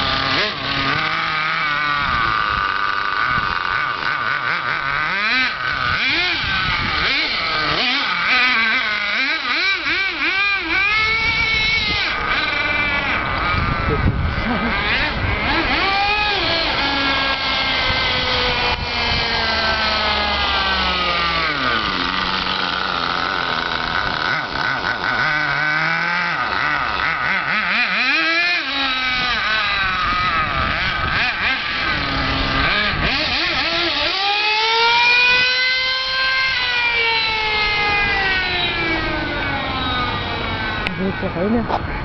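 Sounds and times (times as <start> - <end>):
model car engine revving: 0.0 - 42.0.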